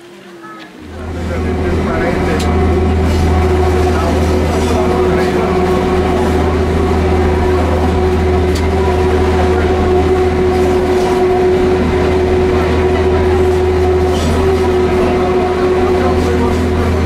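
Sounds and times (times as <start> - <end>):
constant-pitched hum: 0.4 - 17.0
diesel engine drone: 0.8 - 17.0.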